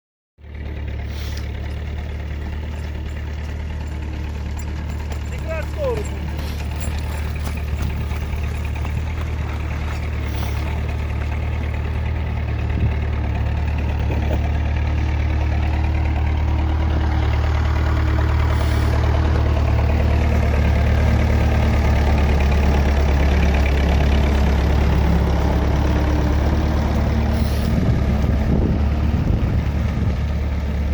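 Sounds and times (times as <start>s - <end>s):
tractor engine droning: 0.4s - 30.9s.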